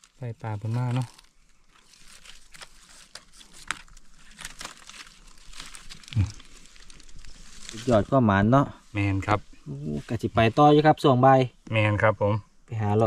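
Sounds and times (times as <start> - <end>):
rustling and crackling: 0.0 - 10.7.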